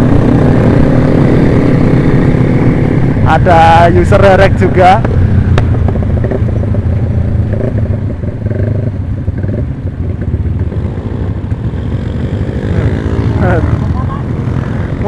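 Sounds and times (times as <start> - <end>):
motorcycle engine low rumble: 0.0 - 15.0.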